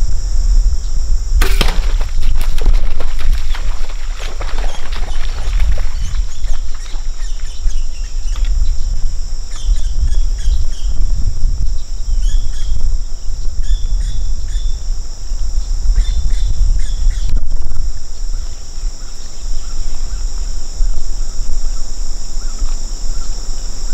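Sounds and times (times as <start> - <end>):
high insect drone: 0.0 - 23.9.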